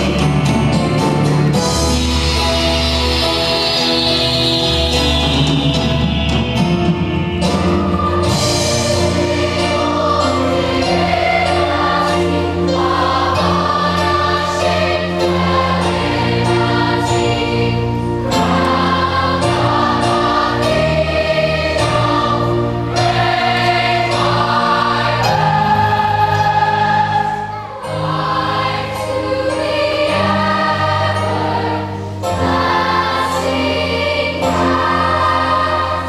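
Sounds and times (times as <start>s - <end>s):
children's chorus singing: 0.0s - 36.0s
instrumental accompaniment: 0.0s - 36.0s.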